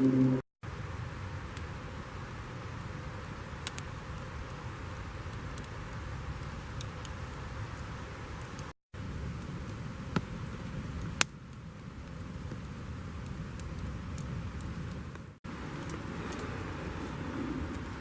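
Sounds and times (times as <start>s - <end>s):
campfire burning: 0.6s - 18.0s
fire popping: 0.7s - 18.0s.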